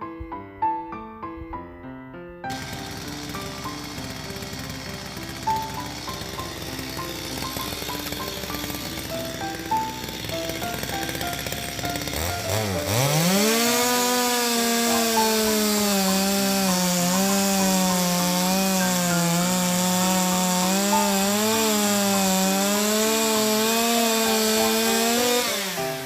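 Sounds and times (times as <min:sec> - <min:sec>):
chainsaw cutting wood: 0:02.5 - 0:26.0.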